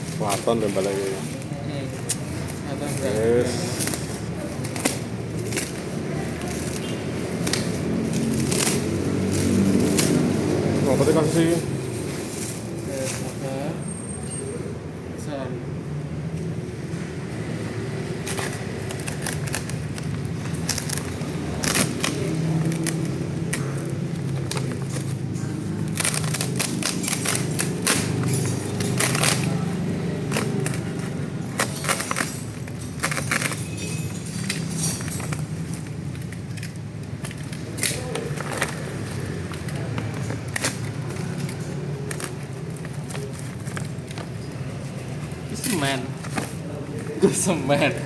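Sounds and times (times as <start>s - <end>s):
packaging clicks and crackles: 0.0s - 11.6s, 18.0s - 48.0s.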